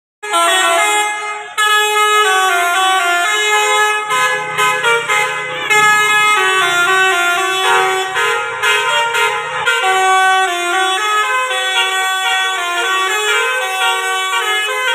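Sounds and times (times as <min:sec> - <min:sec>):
musical air horn tune: 0:00.2 - 0:14.9
bus engine hum: 0:00.5 - 0:14.9.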